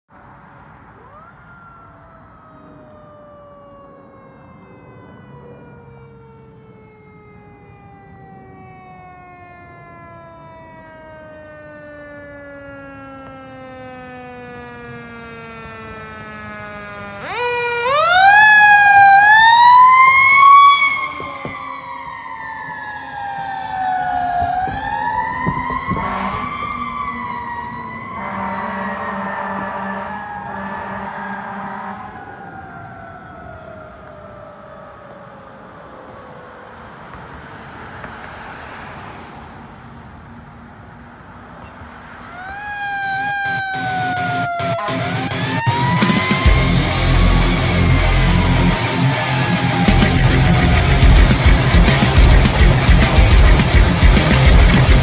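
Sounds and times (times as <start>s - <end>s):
fire engine siren wailing: 0.2s - 55.0s.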